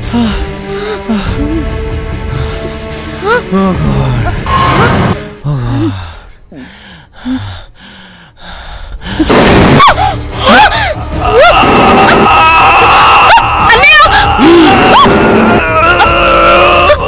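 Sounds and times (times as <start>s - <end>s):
eerie film music: 0.0s - 17.0s.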